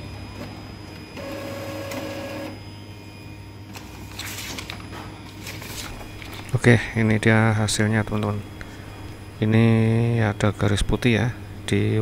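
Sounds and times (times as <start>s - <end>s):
printer motor whine: 0.0s - 12.0s.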